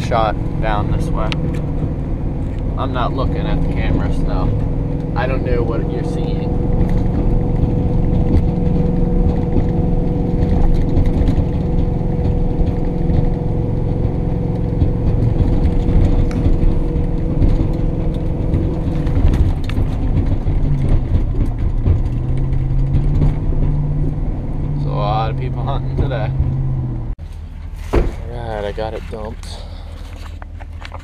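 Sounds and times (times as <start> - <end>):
truck engine from inside cab: 0.0 - 31.0.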